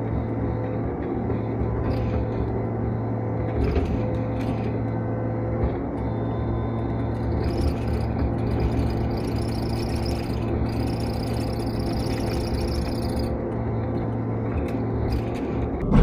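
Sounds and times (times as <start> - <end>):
excavator diesel engine drone: 0.0 - 16.0.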